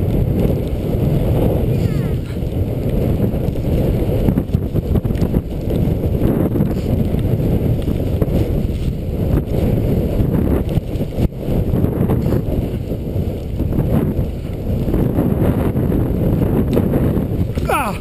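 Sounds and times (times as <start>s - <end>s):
wind buffeting camera microphone: 0.0s - 18.0s.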